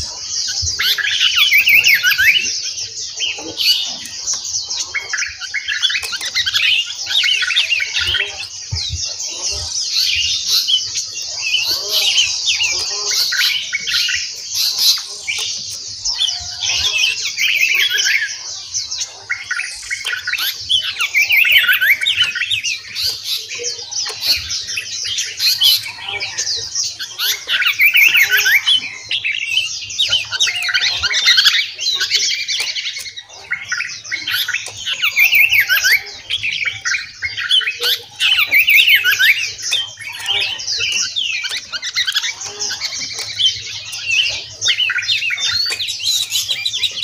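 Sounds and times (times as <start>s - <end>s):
songbirds chirping and twittering: 0.0s - 47.0s.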